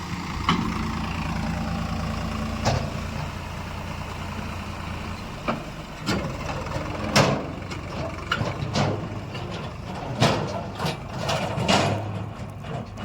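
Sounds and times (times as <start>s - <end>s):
diesel earth-moving machinery running: 0.0s - 13.0s.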